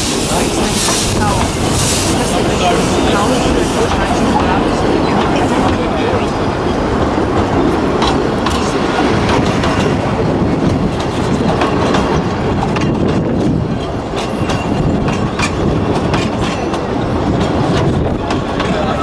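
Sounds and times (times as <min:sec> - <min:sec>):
train rumbling on rails: 0:00.0 - 0:19.0
wheels clicking over rail joints: 0:00.0 - 0:19.0.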